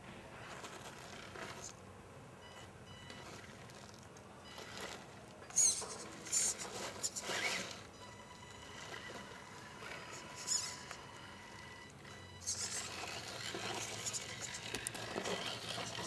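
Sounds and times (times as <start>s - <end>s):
small motor whirring: 0.4s - 1.8s, 2.4s - 16.0s
high-pitched squeaks: 2.5s - 16.0s.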